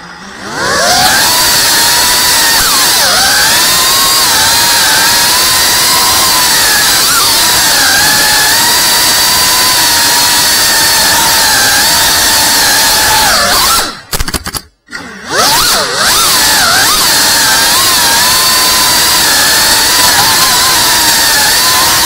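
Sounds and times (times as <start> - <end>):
drone propellers whining: 0.0 - 14.1, 14.9 - 22.0.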